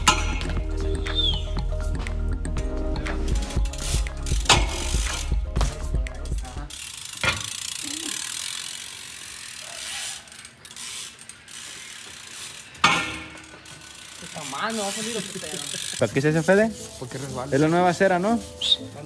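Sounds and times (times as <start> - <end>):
bike hub clicking: 0.0 - 1.5, 2.5 - 19.0.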